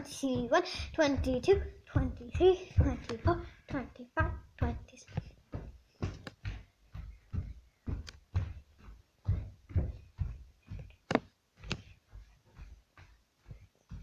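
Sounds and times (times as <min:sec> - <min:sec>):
handheld camera bumps and rubbing: 0:00.0 - 0:14.0.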